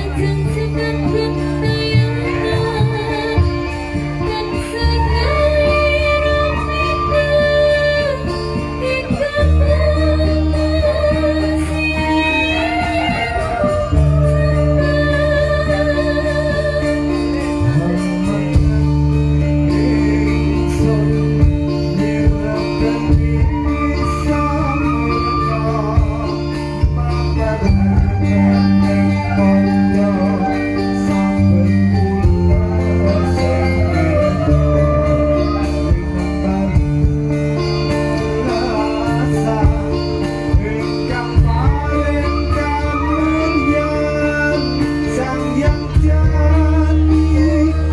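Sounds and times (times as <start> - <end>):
held bass notes: 0.0 - 47.9
person singing melody: 0.0 - 47.9
metallophones and drums: 0.1 - 47.9.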